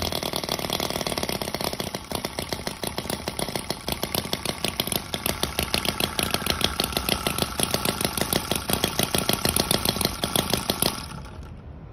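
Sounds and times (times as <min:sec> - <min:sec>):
model engine idling: 0:00.0 - 0:11.6.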